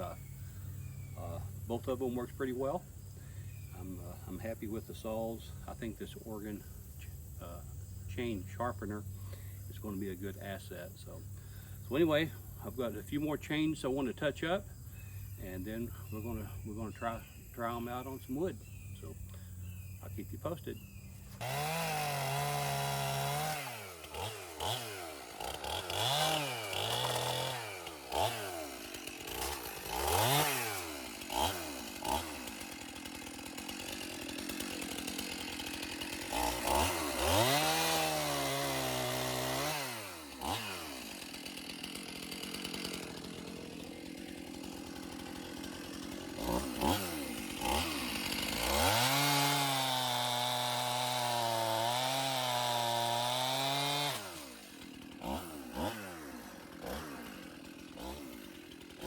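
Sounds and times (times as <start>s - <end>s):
chainsaw revving and cutting wood: 0.0s - 59.0s.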